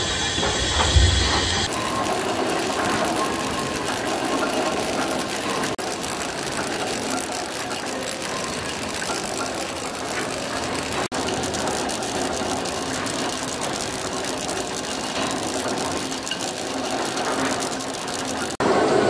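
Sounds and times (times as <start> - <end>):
steam engine clatter: 0.0 - 19.0
steam hissing: 0.0 - 19.0.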